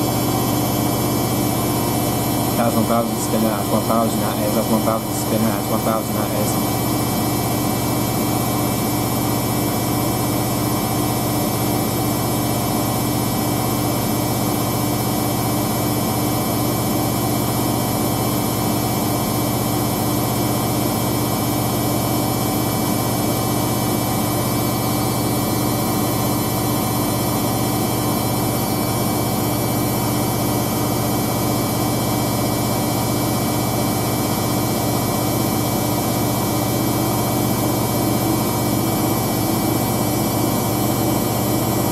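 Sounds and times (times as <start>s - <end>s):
washing machine spinning: 0.0s - 41.9s.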